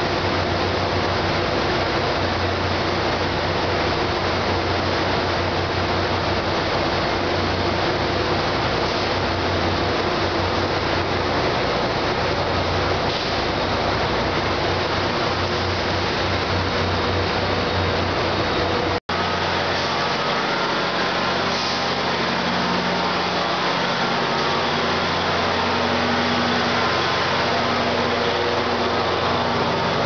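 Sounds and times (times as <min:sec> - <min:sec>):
locomotive idling: 0:00.0 - 0:30.0.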